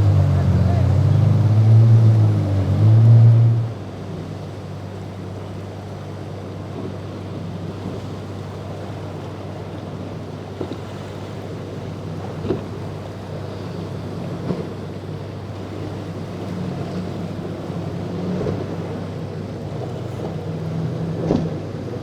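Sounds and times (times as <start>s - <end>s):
boat engine droning: 0.0s - 22.0s
waves on water: 0.0s - 22.0s
wind: 0.0s - 22.0s.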